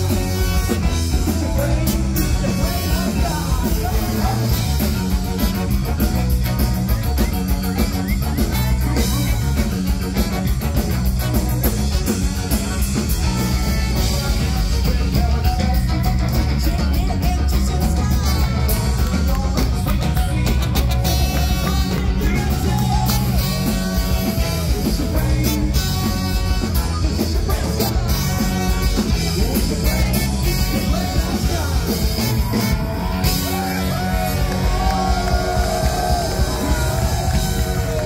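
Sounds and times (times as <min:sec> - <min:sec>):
trombone: 0:00.0 - 0:16.1, 0:19.8 - 0:38.0
drums: 0:00.0 - 0:38.0
electric guitar: 0:00.0 - 0:38.0
person singing: 0:00.0 - 0:38.0
trumpet: 0:00.0 - 0:38.0.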